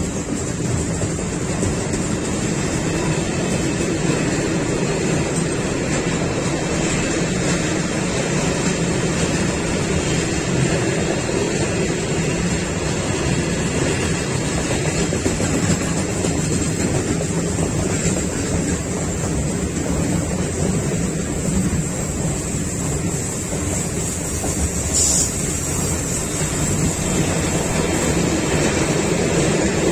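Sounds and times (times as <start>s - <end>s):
steel wheels on rails: 0.0s - 29.9s.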